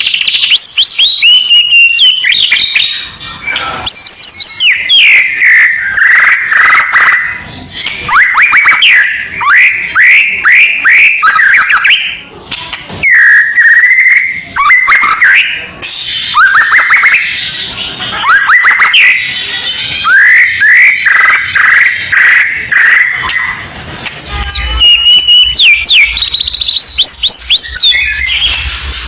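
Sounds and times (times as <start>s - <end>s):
bird whistled song: 0.0s - 12.2s, 13.0s - 23.6s, 24.4s - 29.0s.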